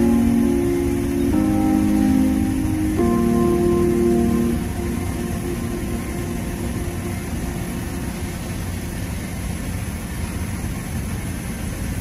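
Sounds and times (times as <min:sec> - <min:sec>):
low rumble with hiss: 0:00.0 - 0:12.0.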